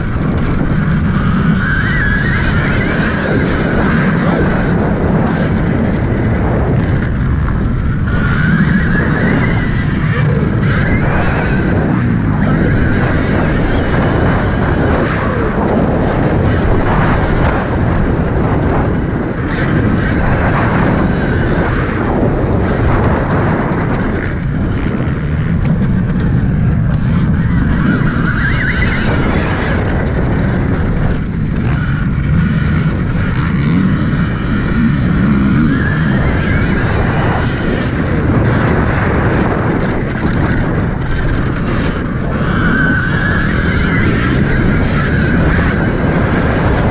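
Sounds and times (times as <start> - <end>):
rough terrain road noise: 0.0 - 46.9
wind buffeting: 0.0 - 46.9.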